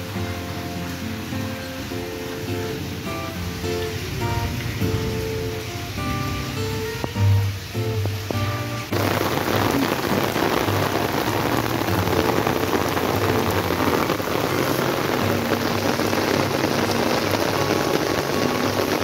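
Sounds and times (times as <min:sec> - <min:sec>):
heavy rain falling: 0:00.0 - 0:19.0
strummed guitar tune: 0:00.0 - 0:19.0.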